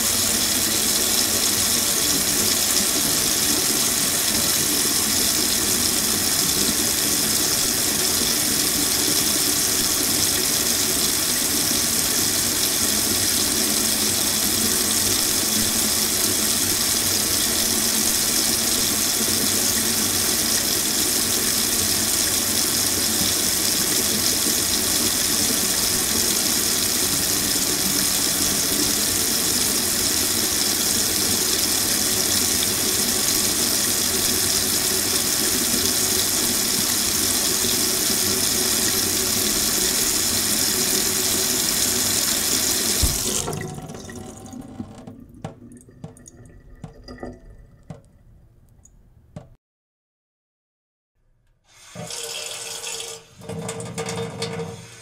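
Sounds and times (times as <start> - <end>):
faucet water pouring into sink: 0.0 - 48.2, 51.7 - 55.0.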